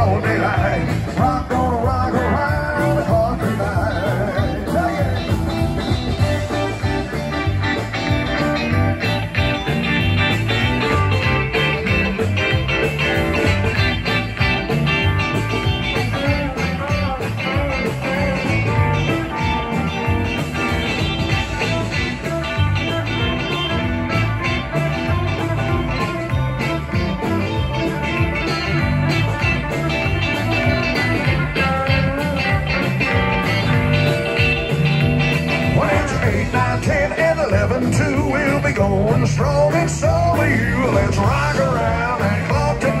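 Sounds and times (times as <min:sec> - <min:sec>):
live blues-rock band: 0:00.0 - 0:43.0.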